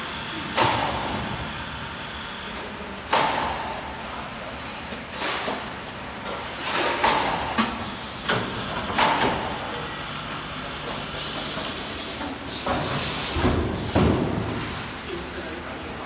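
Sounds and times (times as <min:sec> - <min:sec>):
packing machine hissing and clunking: 0:00.0 - 0:04.1, 0:05.0 - 0:15.6.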